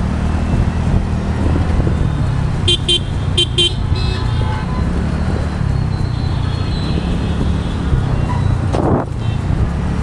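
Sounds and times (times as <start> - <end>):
engine rumble: 0.0 - 10.0
surrounding vehicles: 0.0 - 10.0
wind: 0.0 - 10.0.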